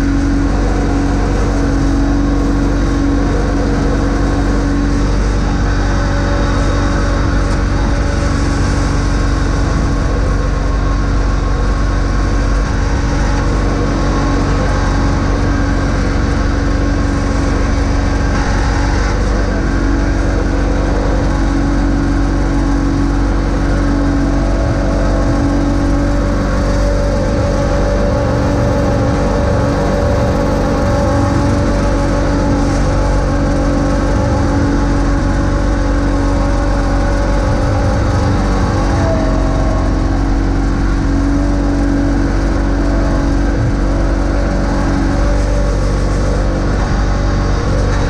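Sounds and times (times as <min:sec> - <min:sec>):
garden tractor engine humming: 0:00.0 - 0:48.0.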